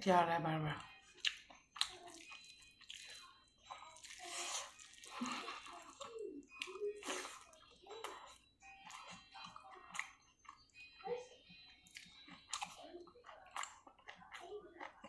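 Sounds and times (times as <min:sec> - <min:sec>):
wet chewing and mouth smacking: 0:00.8 - 0:10.7, 0:11.6 - 0:15.0.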